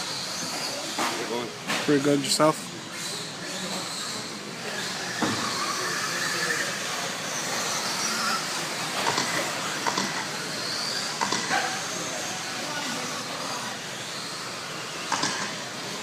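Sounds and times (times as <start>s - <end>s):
remote control trucks whining: 0.0s - 16.0s.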